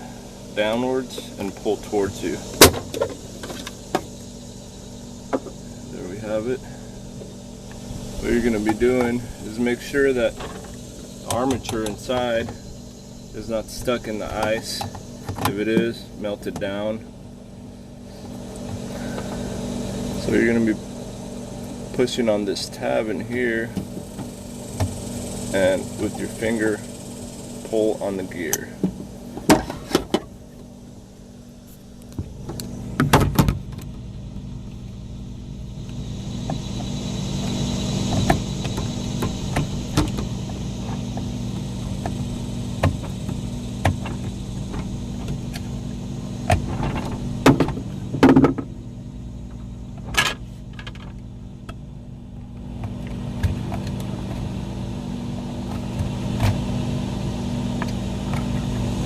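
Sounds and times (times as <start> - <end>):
motor humming: 0.0 - 59.0.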